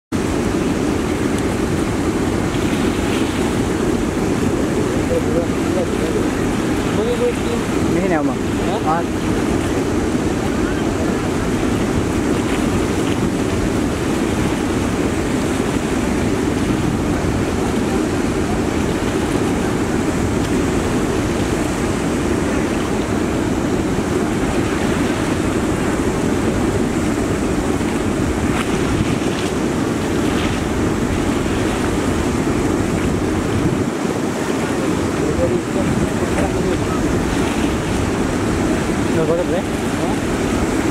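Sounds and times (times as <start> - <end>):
fast-flowing river water: 0.1 - 40.9
wind buffeting microphone: 0.1 - 40.9.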